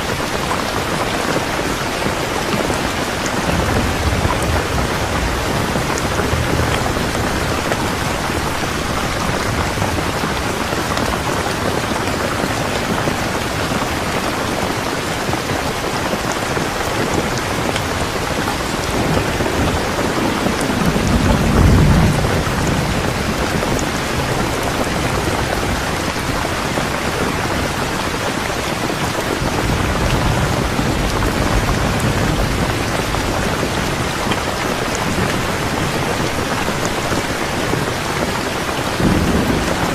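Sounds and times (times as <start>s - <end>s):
rain falling: 0.0s - 39.9s
thunder rumbling: 0.1s - 39.9s.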